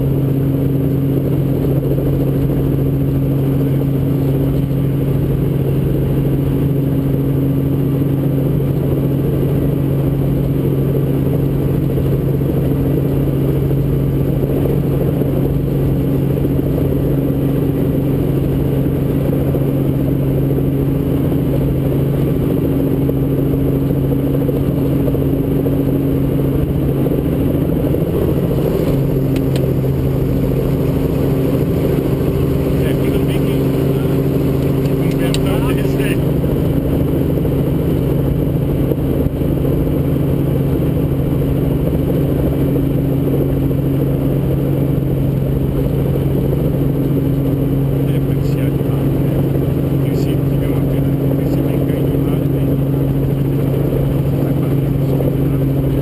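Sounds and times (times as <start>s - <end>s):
helicopter engine and rotors drone: 0.0s - 56.0s.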